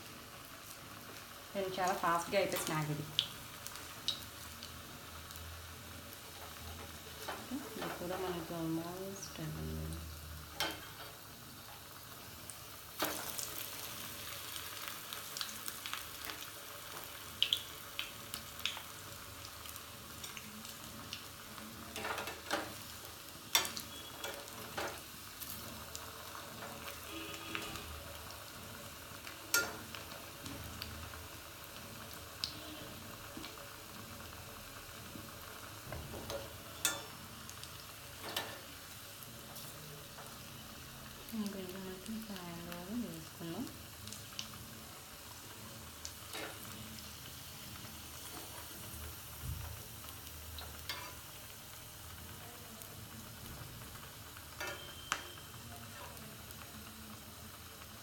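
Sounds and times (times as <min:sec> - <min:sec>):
cutlets sizzling in hot oil: 0:00.0 - 0:58.0.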